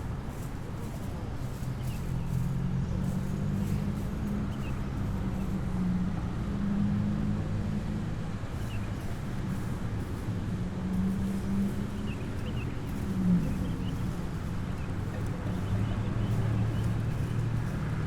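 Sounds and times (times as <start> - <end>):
traffic engines droning: 0.0 - 18.0.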